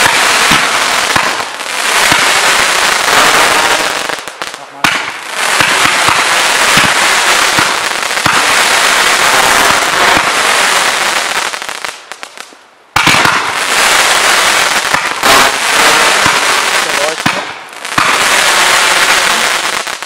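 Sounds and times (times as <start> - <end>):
sharp fireworks reports: 0.0 - 12.3, 12.9 - 20.0
fireworks crackling and popping: 0.0 - 20.0.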